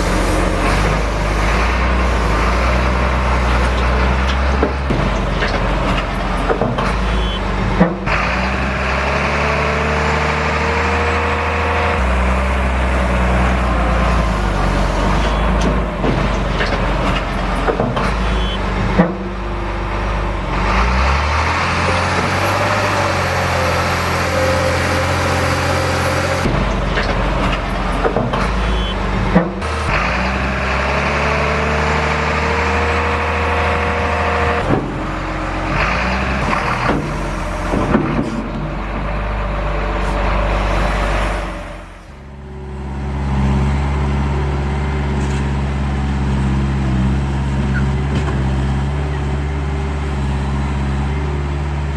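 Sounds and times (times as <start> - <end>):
hydraulic pump motor hum: 0.0 - 51.2.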